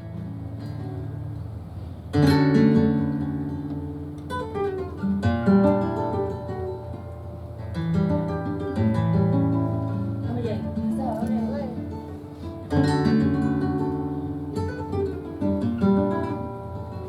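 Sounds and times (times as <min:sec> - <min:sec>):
flamenco guitar playing: 0:00.0 - 0:17.0.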